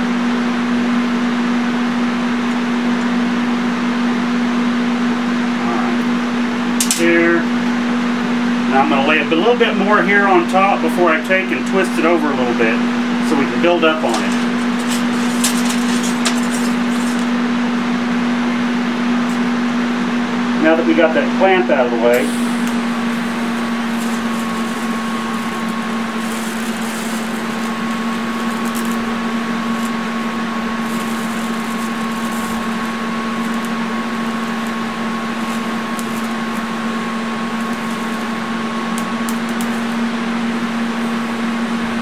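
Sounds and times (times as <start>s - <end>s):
welding arc buzzing and hissing: 0.0s - 42.0s.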